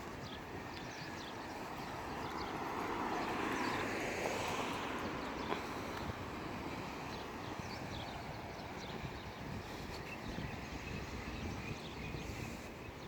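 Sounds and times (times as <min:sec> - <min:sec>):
vehicle passing: 0:00.0 - 0:12.7
small birds chirping: 0:00.0 - 0:13.0
traffic noise: 0:00.0 - 0:13.0.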